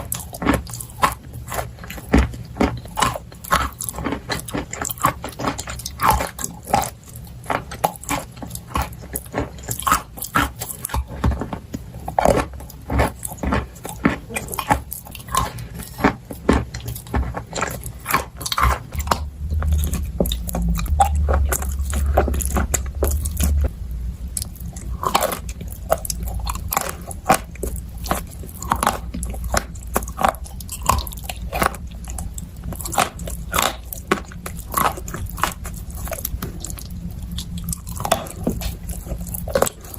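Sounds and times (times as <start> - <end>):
chewing: 0.0 - 23.7, 24.3 - 39.9.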